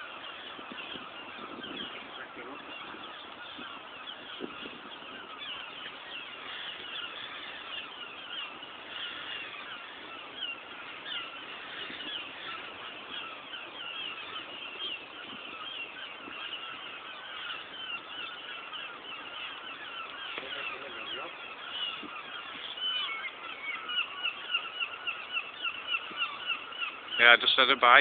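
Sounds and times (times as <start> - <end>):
flock of birds calling: 0.0 - 28.0.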